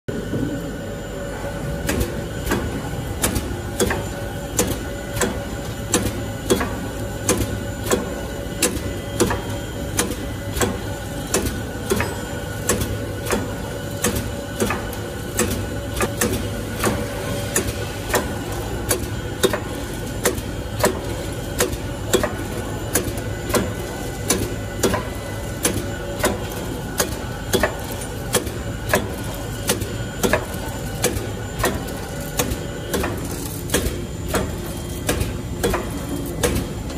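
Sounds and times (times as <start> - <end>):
low machine hum: 0.1 - 36.9
machine mechanical clacks: 1.8 - 36.9.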